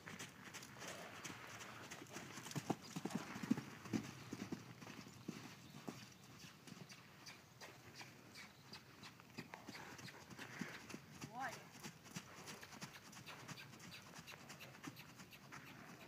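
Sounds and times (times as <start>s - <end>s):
horse hoofbeats on dirt: 0.0s - 16.0s.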